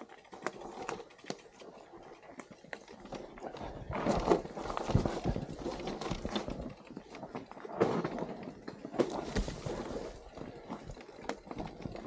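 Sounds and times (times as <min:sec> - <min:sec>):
bike rattling over rocks: 0:00.0 - 0:12.0.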